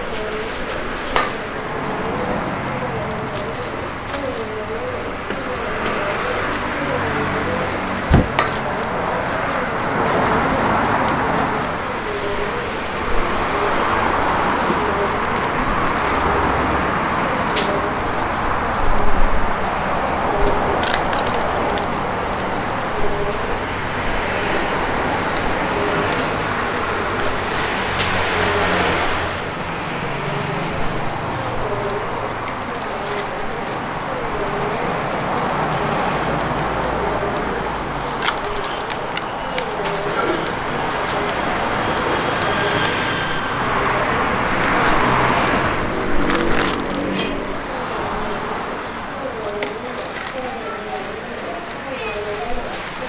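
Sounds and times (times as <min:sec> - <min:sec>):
plastic bags crinkling: 0:00.0 - 0:53.0
road traffic noise: 0:00.0 - 0:53.0.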